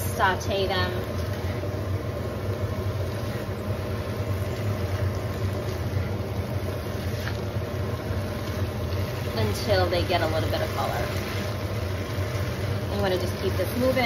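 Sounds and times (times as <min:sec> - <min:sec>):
beans sizzling in a frying pan: 0:00.0 - 0:14.0
low kitchen hum: 0:00.0 - 0:14.0.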